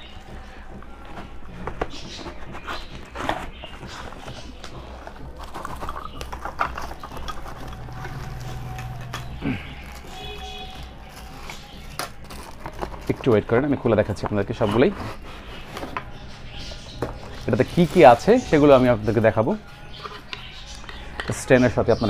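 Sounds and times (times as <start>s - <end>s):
cardboard packaging rustling: 0.0s - 20.8s.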